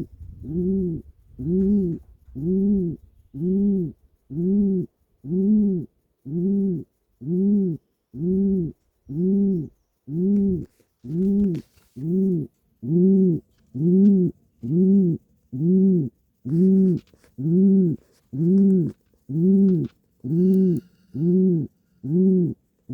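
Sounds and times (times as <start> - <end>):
pigeon cooing: 0.0 - 22.9.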